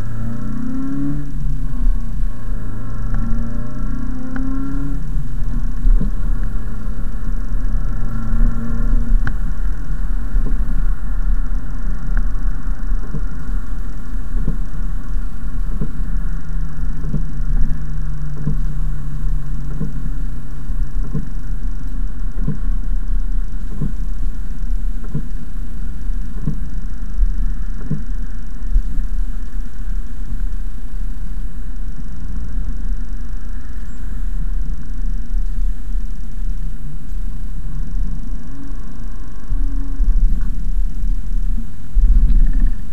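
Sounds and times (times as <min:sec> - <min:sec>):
car engine and road rumble: 0:00.0 - 0:42.9
windscreen wipers knocking: 0:00.3 - 0:31.5, 0:32.1 - 0:42.9.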